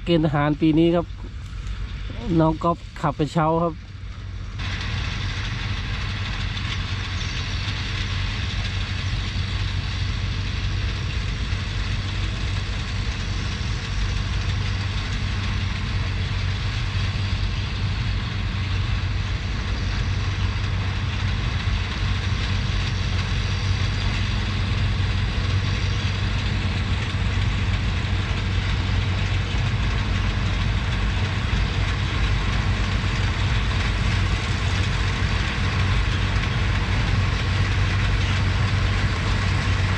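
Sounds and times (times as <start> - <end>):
diesel engines humming: 0.0 - 39.9.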